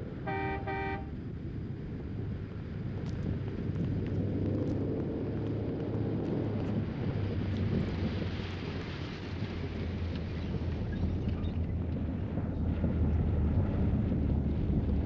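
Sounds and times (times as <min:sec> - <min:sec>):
propeller airplane engines rumbling: 0:00.0 - 0:15.0.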